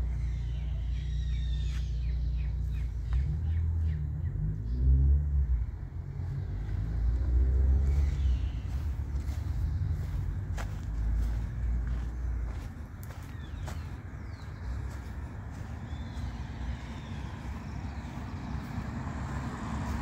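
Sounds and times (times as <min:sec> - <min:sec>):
car engine rumble: 0:00.0 - 0:20.0
small birds chirping: 0:00.0 - 0:20.0.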